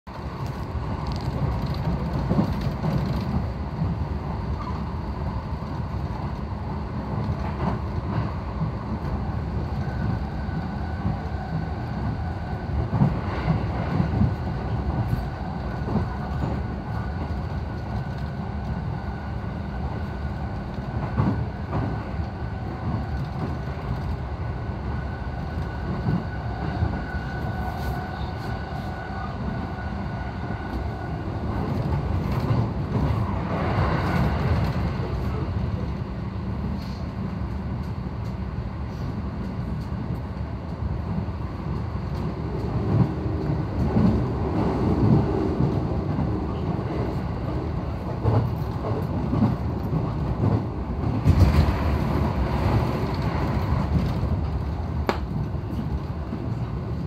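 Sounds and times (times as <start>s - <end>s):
train wheels rumbling on rails: 0.1s - 57.0s.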